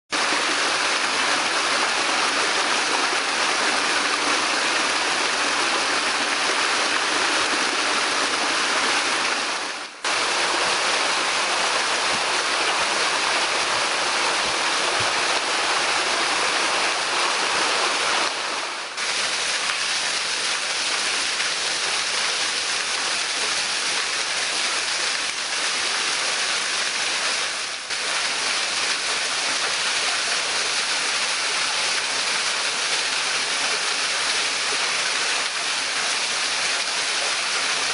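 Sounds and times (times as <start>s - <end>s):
waterfall rushing and splashing: 0.1s - 37.9s.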